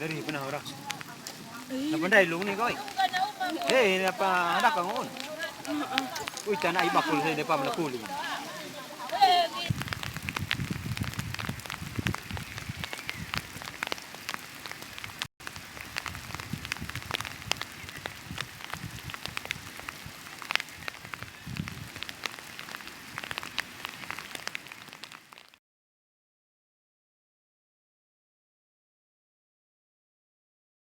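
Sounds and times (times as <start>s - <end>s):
wind gusts on microphone: 0.0s - 25.1s
heavy rain pelting down: 0.0s - 25.6s.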